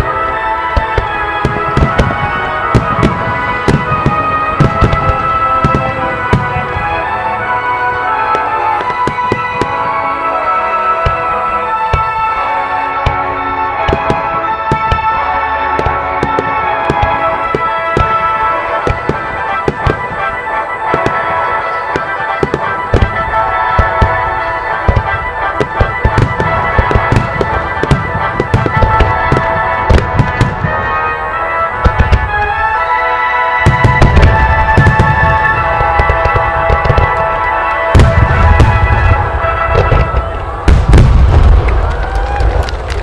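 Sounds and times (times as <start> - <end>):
fireworks booms: 0.0 - 32.9, 33.6 - 43.0
fireworks cracking and crackling: 0.0 - 43.0
music with long held notes: 0.0 - 43.0.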